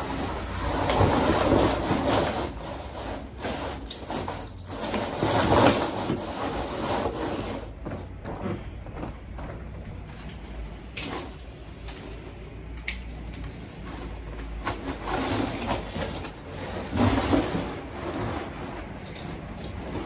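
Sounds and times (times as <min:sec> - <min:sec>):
artificial tree branches rustling: 0:00.0 - 0:20.0.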